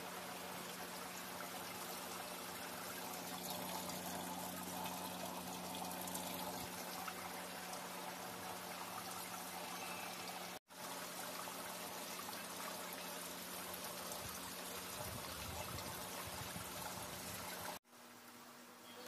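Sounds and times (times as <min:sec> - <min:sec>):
water trickling: 0:00.0 - 0:17.8.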